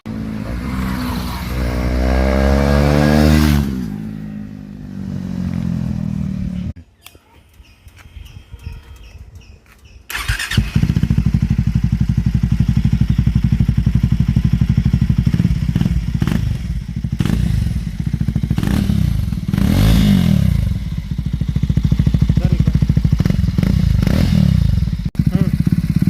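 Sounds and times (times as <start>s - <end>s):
motorcycle engine idling and revving: 0.0s - 6.8s, 7.4s - 26.0s.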